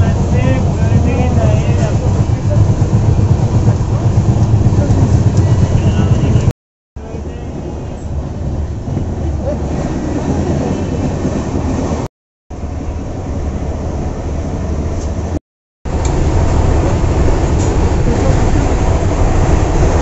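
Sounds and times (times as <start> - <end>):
train rumbling inside coach: 0.0 - 20.0.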